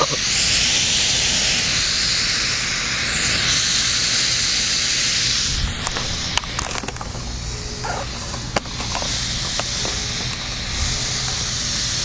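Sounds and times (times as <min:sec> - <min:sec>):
smoke bomb hissing: 0:00.0 - 0:12.0.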